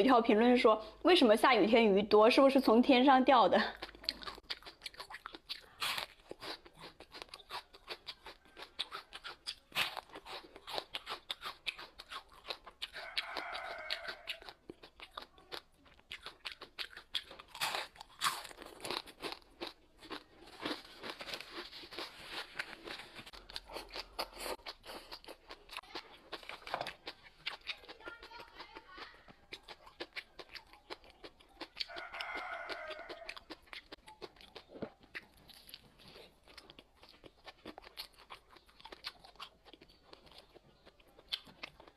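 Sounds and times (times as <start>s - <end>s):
crunchy chewing: 3.6s - 41.9s.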